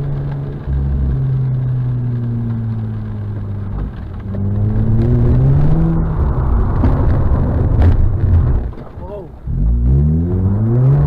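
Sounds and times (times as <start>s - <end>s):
rotary engine revving: 0.0s - 11.0s.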